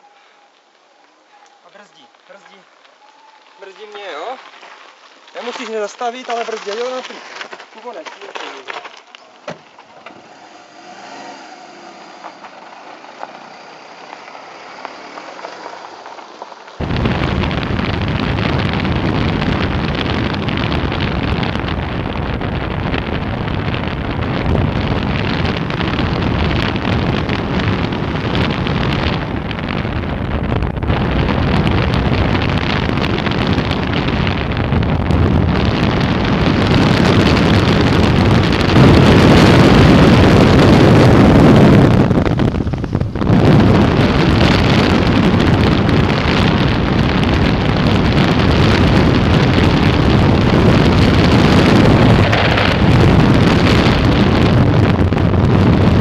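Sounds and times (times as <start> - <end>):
wind rushing over microphone: 9.5 - 56.0.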